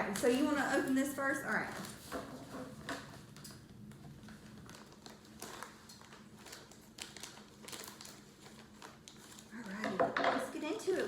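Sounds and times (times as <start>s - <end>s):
pouch crinkling and rustling: 0.0s - 9.9s.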